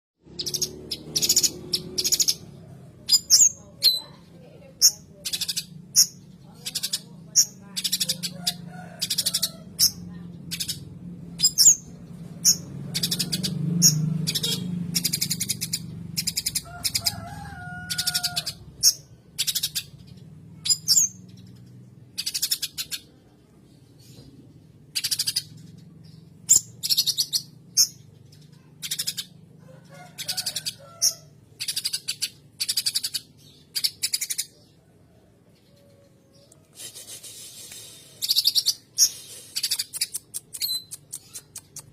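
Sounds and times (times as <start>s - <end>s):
songbird chattering song: 0.2s - 29.6s, 30.2s - 41.9s
sparrows scolding chatter: 0.2s - 41.9s.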